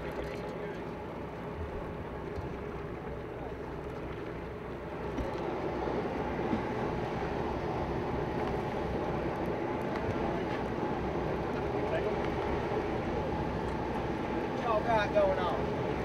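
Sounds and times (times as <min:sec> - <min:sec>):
boat engine drone: 0:00.0 - 0:16.0
water noise: 0:00.0 - 0:16.0.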